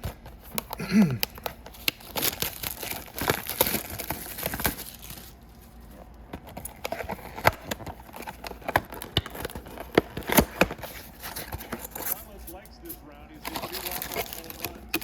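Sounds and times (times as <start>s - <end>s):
card packs rustling: 0.0s - 15.0s.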